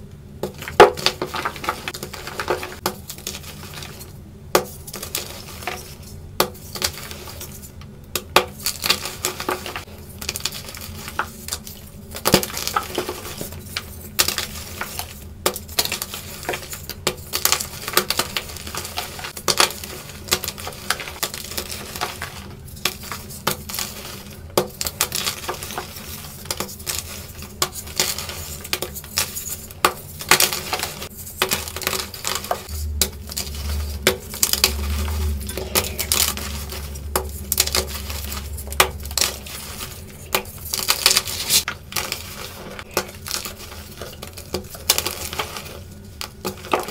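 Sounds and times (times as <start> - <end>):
chalk blocks crunching and crumbling: 0.5 - 7.6, 8.4 - 46.9.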